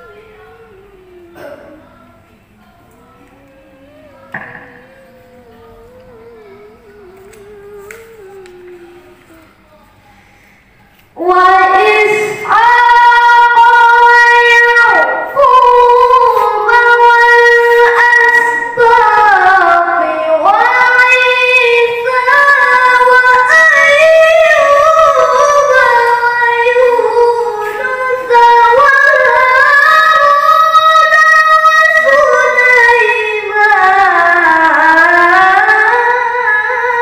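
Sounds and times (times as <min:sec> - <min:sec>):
boy reciting melodically: 0:00.0 - 0:37.0.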